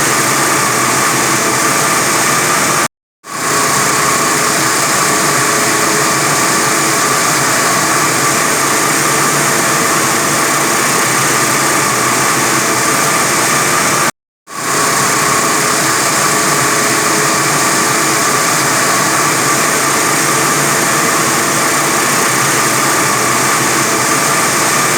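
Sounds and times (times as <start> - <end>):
wire saw cutting concrete: 0.0 - 24.9.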